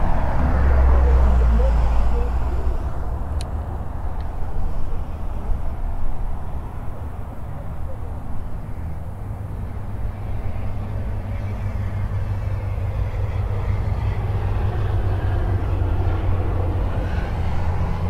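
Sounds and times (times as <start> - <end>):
highway traffic drone: 0.0 - 18.0.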